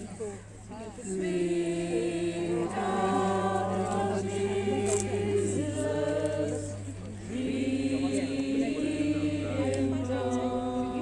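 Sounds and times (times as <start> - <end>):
voices singing a hymn: 0.7 - 11.0.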